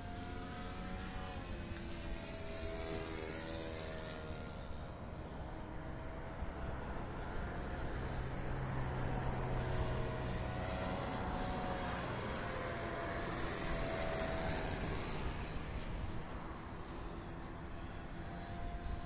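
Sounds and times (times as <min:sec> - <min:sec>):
model plane engine buzzing: 0:00.0 - 0:19.0.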